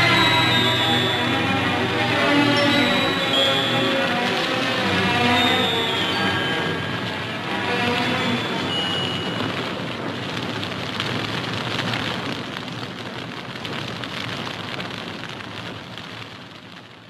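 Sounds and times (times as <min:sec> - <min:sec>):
flames crackling: 0:00.0 - 0:17.0.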